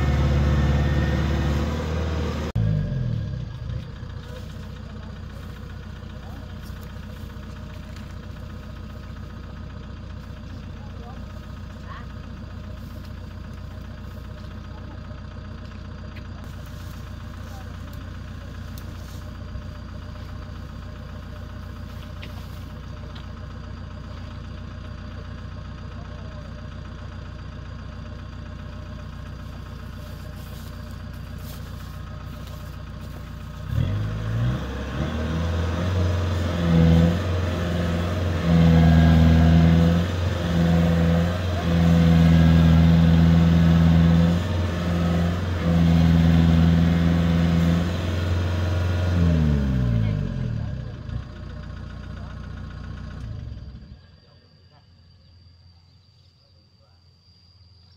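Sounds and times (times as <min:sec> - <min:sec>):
harvester engine running: 0:00.0 - 0:54.3.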